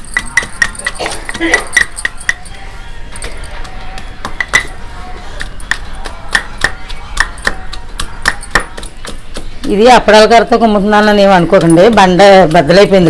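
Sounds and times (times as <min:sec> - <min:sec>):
wooden stick pounding seeds: 0:00.0 - 0:02.6, 0:03.2 - 0:13.0.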